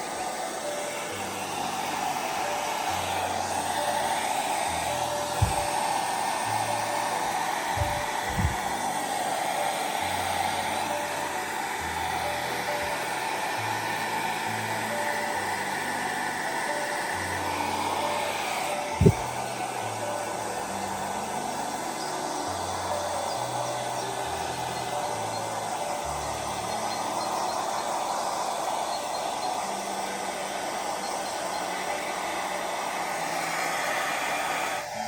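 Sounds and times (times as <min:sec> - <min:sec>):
electric blower whirring: 0:00.0 - 0:35.0.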